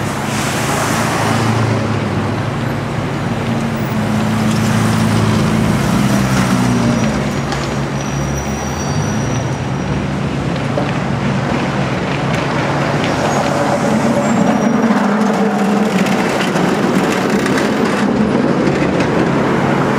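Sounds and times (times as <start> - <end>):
street traffic: 0.0 - 19.9
cable car rolling on rails: 1.8 - 19.9.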